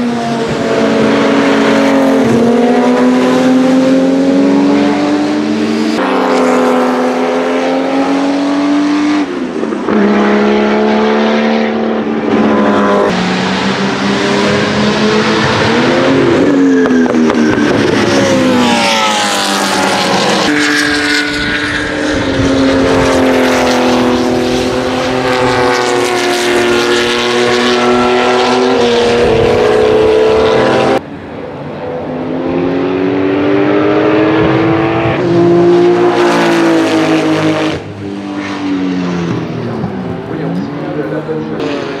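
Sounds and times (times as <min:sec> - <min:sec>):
race car engines accelerating: 0:00.0 - 0:42.0.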